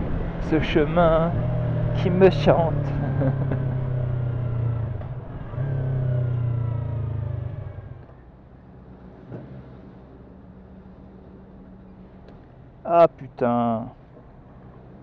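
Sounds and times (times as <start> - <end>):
motorcycle engine: 0.0 - 12.5.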